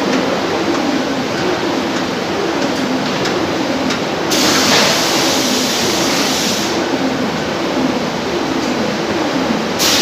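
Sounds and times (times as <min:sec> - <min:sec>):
machine noise with low hum: 0:00.0 - 0:10.0.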